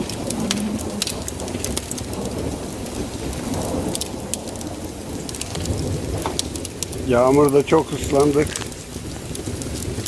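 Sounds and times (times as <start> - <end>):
raindrops ticking on surface: 0.0 - 10.0
steady rain: 0.0 - 10.0.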